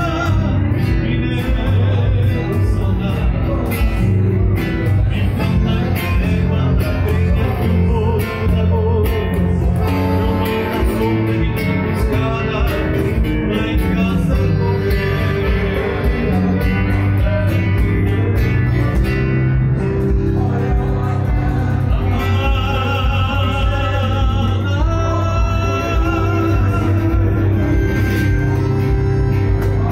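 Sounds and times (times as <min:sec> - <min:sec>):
accordion: 0:00.0 - 0:29.9
acoustic guitar: 0:00.0 - 0:29.9
cajon drumming: 0:00.0 - 0:29.9
electric bass: 0:00.0 - 0:29.9
man singing: 0:00.0 - 0:29.9.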